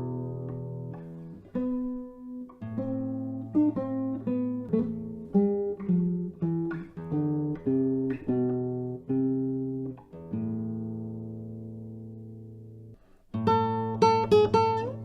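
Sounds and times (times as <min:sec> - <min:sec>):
solo guitar plucked melody: 0:00.0 - 0:15.0.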